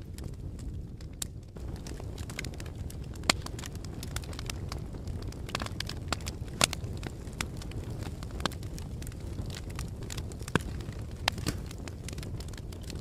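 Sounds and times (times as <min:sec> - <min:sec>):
fire crackling: 0:00.0 - 0:13.0
sharp fire pops: 0:00.0 - 0:13.0.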